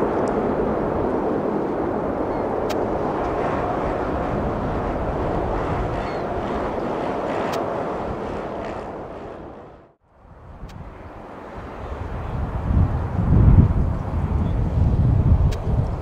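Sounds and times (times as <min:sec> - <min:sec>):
jet airliner landing: 0:00.0 - 0:16.0.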